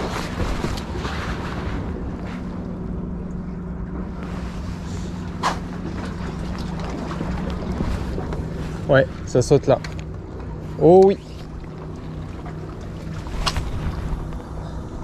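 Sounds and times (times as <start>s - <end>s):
low engine hum: 0.0s - 15.0s
wind rumble on microphone: 0.0s - 15.0s.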